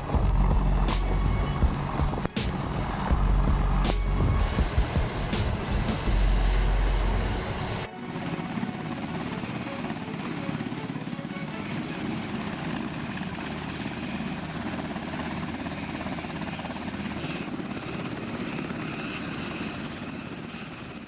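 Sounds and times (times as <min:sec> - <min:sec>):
helicopter rotor chop: 0:00.0 - 0:21.0.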